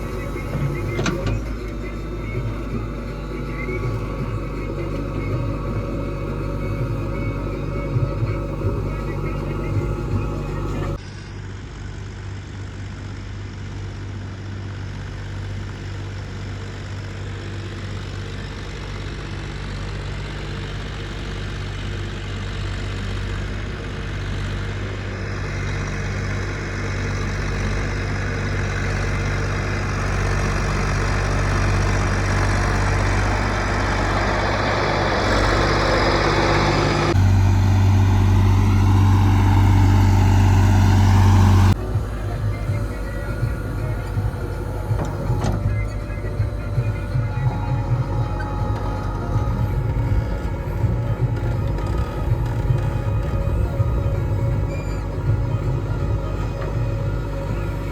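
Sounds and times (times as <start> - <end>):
deep hum: 0.0 - 57.9
heavy diesel engine running: 0.0 - 57.9.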